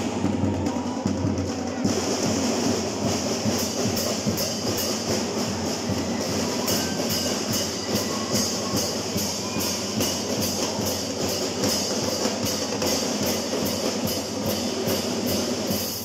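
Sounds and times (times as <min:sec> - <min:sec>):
marching band drums: 0:00.0 - 0:16.0
cymbal strokes: 0:01.1 - 0:16.0.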